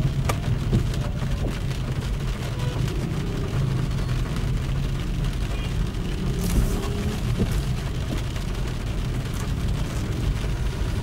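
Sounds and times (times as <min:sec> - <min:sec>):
car engine and tyres rumbling: 0:00.0 - 0:11.0
rain and spray hissing: 0:00.0 - 0:11.0.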